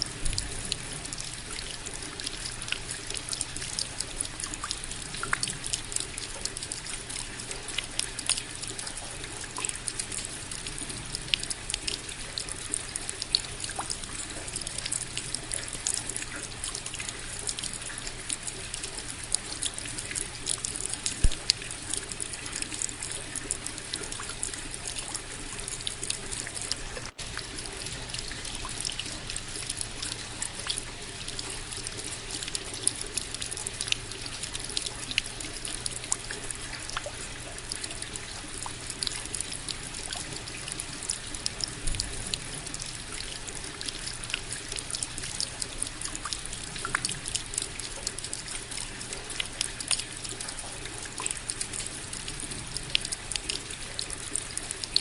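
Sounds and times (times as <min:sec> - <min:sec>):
rain drops pattering: 0:00.0 - 0:55.0
water trickling and dripping: 0:00.0 - 0:55.0.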